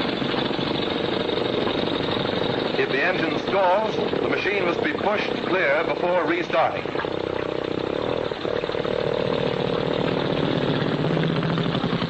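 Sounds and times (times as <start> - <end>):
motorcycle engine buzzing: 0.0 - 12.0.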